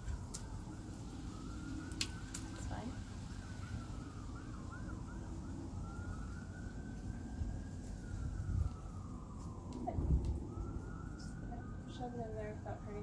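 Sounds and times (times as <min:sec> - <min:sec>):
emergency siren yelp and wail: 0:00.0 - 0:13.0.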